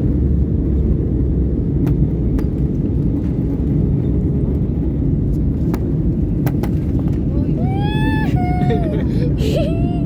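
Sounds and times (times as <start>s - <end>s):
jet airliner cabin rumble: 0.0s - 10.0s.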